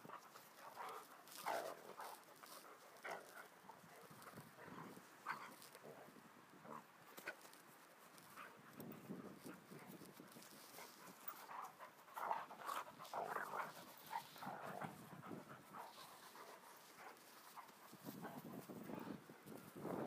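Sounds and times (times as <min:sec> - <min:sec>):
dogs play-wrestling: 0:00.0 - 0:19.6.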